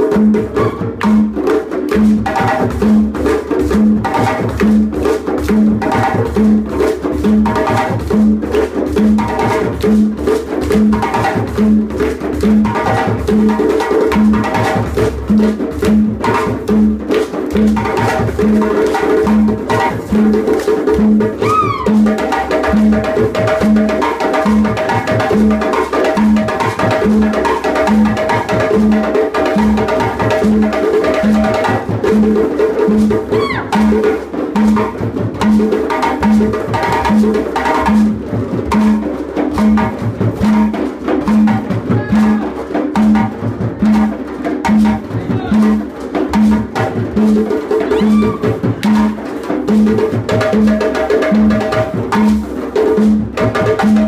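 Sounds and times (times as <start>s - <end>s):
deep drum beat: 0.0s - 54.0s
hand drums playing dance rhythm: 0.0s - 54.0s.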